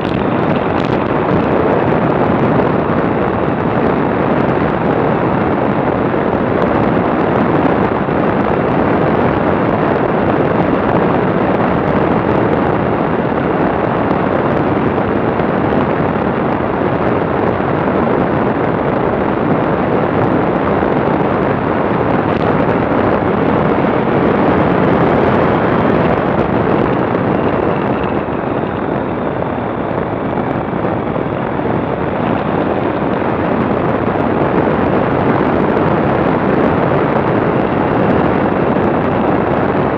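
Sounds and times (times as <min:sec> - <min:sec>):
road noise: 0:00.0 - 0:39.9
wind rushing on microphone: 0:00.0 - 0:39.9.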